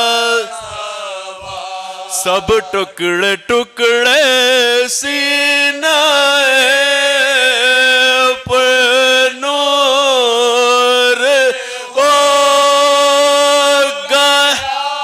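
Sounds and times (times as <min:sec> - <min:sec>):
men singing a lament: 0:00.0 - 0:15.0.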